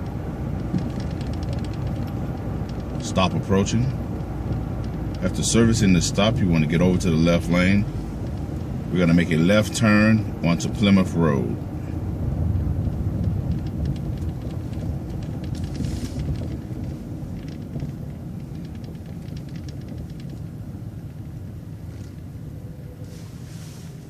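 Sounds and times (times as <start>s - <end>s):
light clicking and rattling: 0.0s - 9.6s, 12.4s - 22.3s
bus engine and road rumble: 0.0s - 24.0s.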